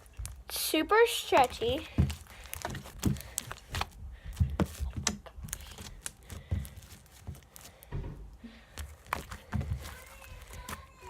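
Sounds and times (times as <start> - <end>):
slime squished by hand: 1.2 - 7.9, 8.7 - 11.0.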